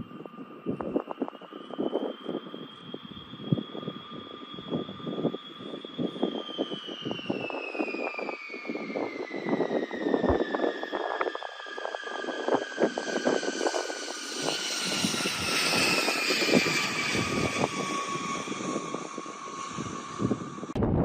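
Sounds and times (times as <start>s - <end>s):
jet engines passing by: 0.0s - 21.0s
wind noise on microphone: 0.0s - 21.0s.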